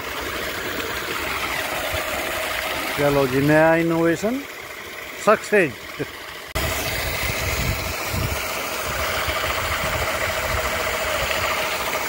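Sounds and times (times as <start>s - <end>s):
electric motor pump humming: 0.0s - 12.0s
water gushing from pipe: 0.0s - 12.0s.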